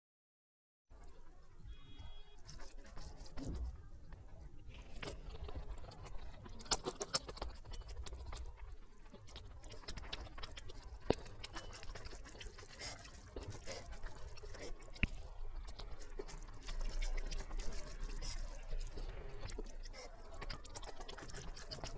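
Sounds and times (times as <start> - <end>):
person chewing and smacking: 1.9 - 21.9.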